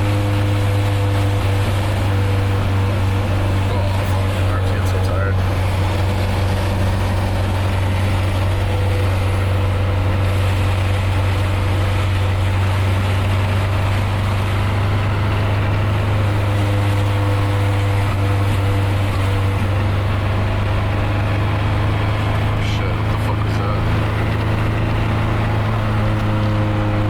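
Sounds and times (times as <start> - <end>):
car engine and exhaust droning: 0.0 - 27.0
road and tyre noise: 0.0 - 27.0.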